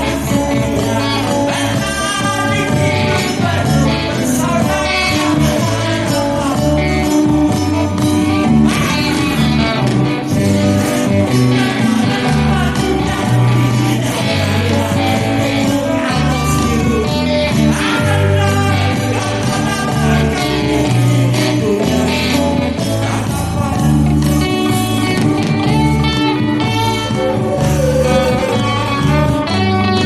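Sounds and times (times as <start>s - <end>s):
live pop band playing: 0.0s - 30.0s
person singing: 0.0s - 30.0s.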